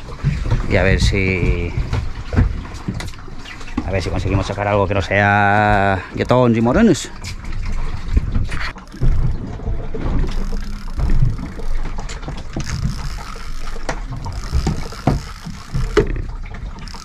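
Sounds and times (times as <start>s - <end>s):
water noise: 0.0s - 17.0s
wind: 0.0s - 17.0s.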